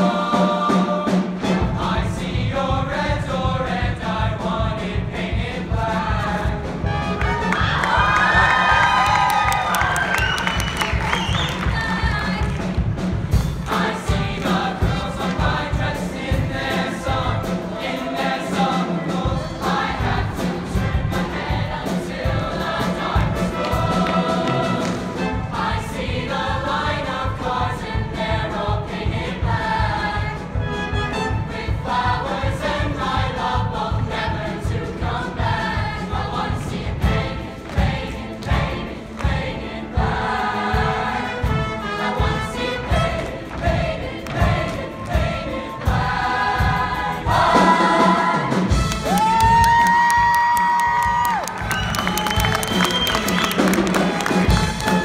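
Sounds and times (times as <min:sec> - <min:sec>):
accompaniment with steady beat: 0:00.0 - 0:49.2
choir singing in harmony: 0:00.0 - 0:49.2, 0:51.0 - 0:55.0.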